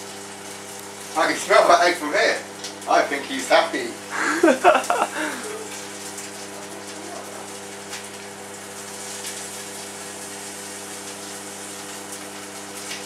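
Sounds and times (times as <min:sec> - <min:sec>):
fan hiss: 0:00.0 - 0:13.0
microwave oven humming: 0:00.0 - 0:13.0.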